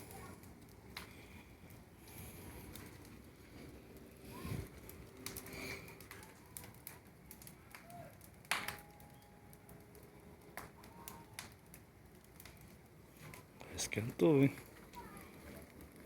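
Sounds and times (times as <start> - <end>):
bonfire crackling: 0.0 - 16.0
sharp pops from fire: 0.0 - 16.0.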